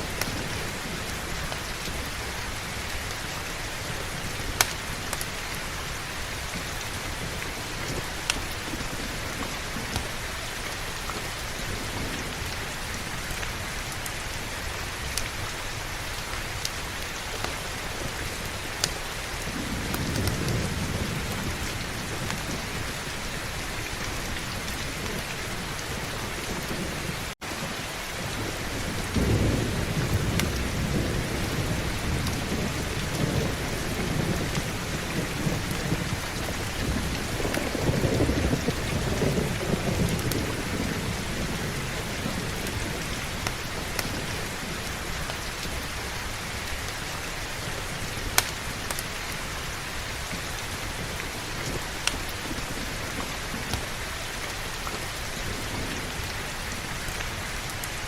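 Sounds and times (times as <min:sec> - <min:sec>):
thunder rumbling: 0:00.0 - 0:46.9
heavy rain falling: 0:00.0 - 0:58.0.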